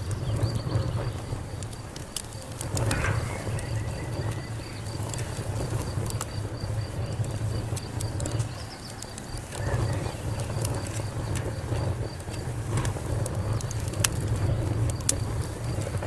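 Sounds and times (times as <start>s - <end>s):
fire crackling: 0.0s - 16.0s
low rumble of burning: 0.0s - 16.0s.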